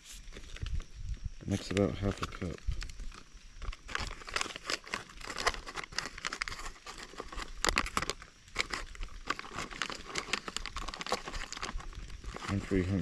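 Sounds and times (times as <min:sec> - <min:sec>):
food pouch crinkling: 0:01.6 - 0:13.0.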